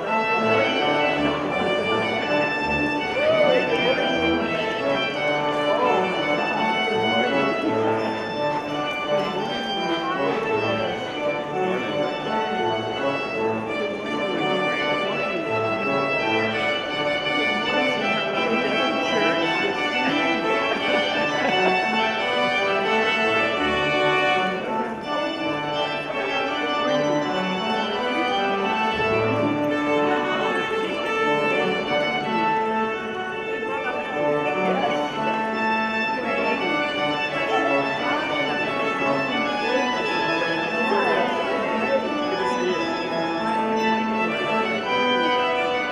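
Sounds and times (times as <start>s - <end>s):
church organ chords: 0.0s - 45.9s.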